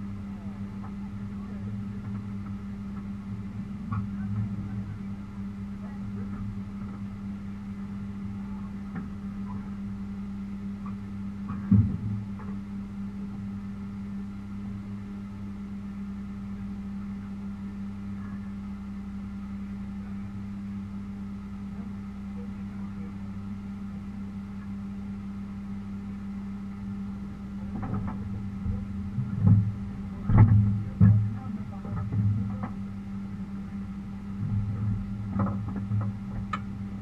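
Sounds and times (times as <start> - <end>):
car engine idling: 0.0 - 37.0
engine throttle blips: 0.0 - 37.0.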